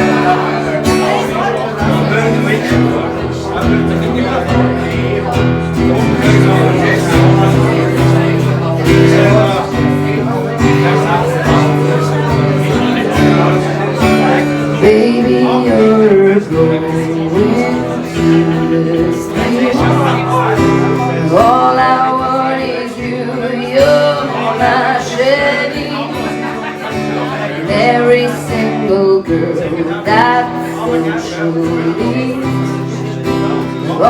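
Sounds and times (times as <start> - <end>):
guitar playing: 0.0 - 34.0
person singing: 5.9 - 34.0.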